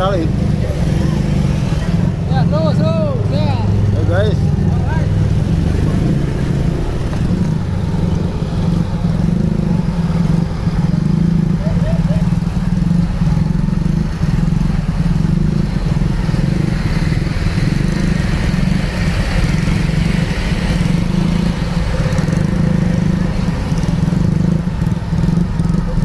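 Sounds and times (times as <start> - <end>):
motorcycle engine droning: 0.0 - 26.0.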